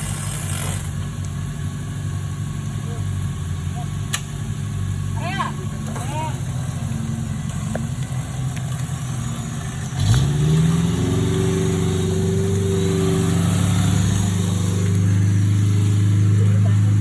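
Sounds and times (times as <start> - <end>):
engine revving: 1.8 - 17.0.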